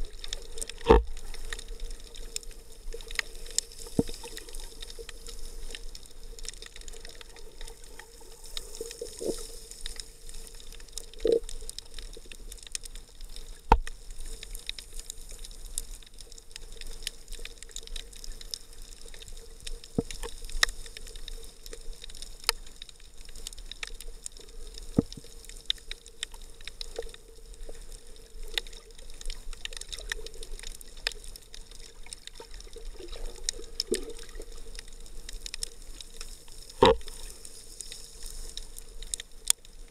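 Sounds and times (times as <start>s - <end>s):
irregular clicks and crackles: 0.0s - 39.9s
muffled underwater hiss: 0.0s - 39.9s.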